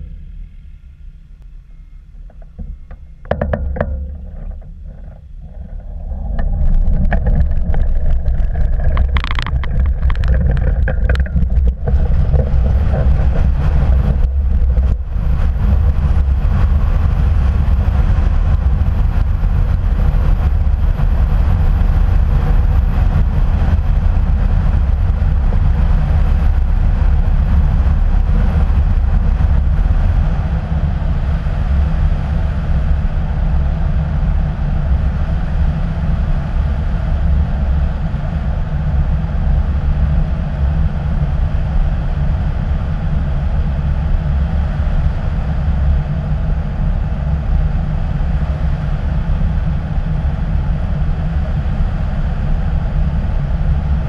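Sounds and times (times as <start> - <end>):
wind and rolling rumble: 0.0 - 54.0.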